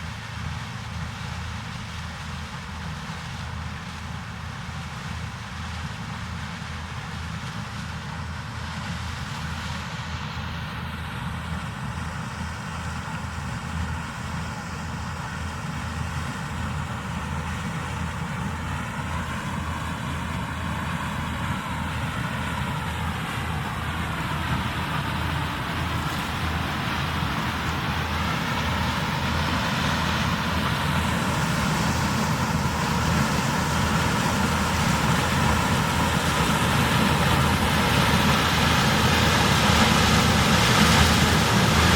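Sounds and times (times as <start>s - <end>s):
farm machinery engine rumbling: 0.0s - 41.9s.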